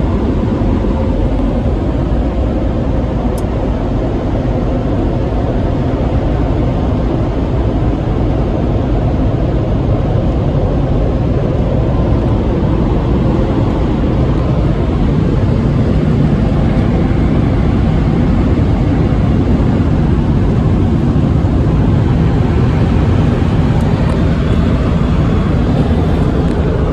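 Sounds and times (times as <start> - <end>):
car wash dryer blowers: 0.0 - 26.9.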